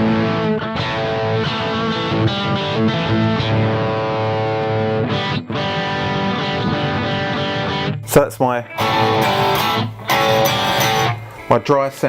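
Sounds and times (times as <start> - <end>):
distorted electric guitar: 0.0 - 11.8.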